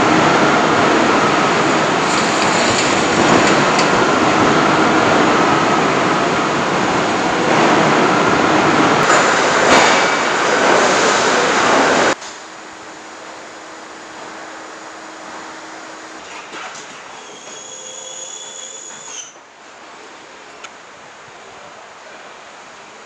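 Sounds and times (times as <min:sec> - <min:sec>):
factory machinery din: 0:00.0 - 0:19.2.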